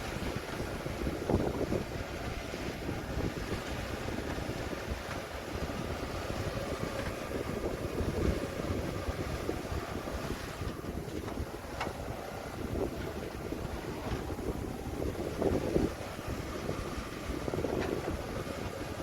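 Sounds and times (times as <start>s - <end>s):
diesel engine of heavy machinery: 0.0s - 19.0s
wind noise on microphone: 0.0s - 19.0s.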